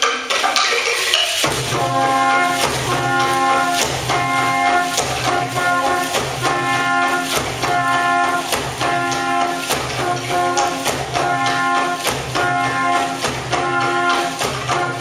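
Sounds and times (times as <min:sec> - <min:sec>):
sharp percussion hits: 0:00.0 - 0:15.0
brass ensemble music: 0:01.5 - 0:15.0.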